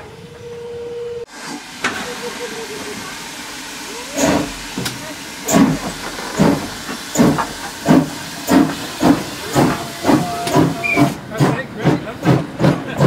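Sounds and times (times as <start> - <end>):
steam locomotive exhaust chuffs: 0.1 - 13.0
steam hissing: 1.2 - 13.0.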